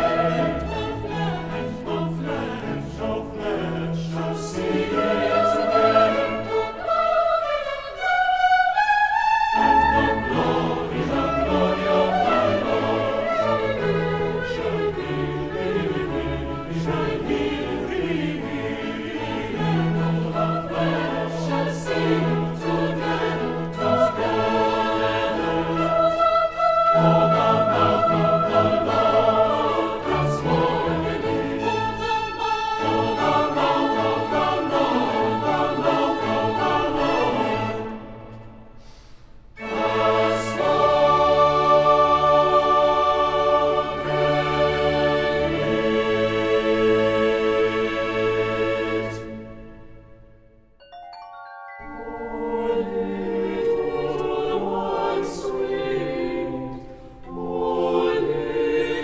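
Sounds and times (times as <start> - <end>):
choir singing: 0.0 - 50.5, 51.7 - 59.0
symphony orchestra: 0.0 - 59.0.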